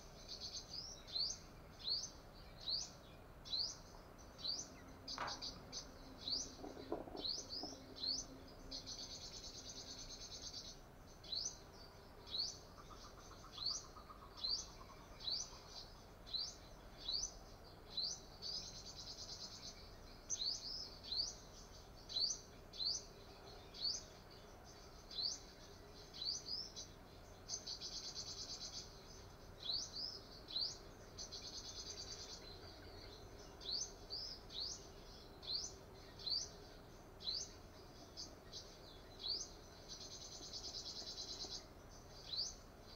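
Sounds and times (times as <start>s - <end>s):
bird chirping: 0.0s - 42.9s
high buzzing bird trills: 0.0s - 42.9s.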